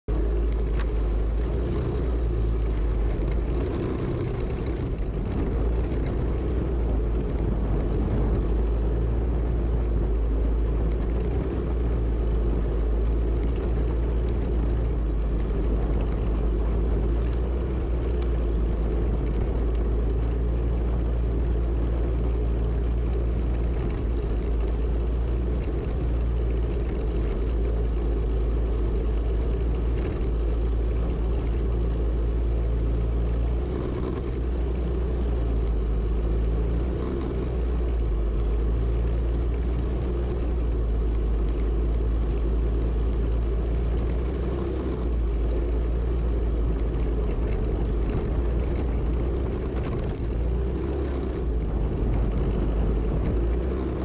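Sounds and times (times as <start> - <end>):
wind rumble on microphone: 0.0 - 54.0
kart engine running: 0.1 - 54.0.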